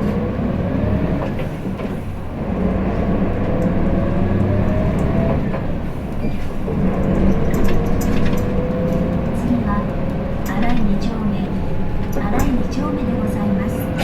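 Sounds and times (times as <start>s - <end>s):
bus diesel engine accelerating: 0.0s - 14.0s.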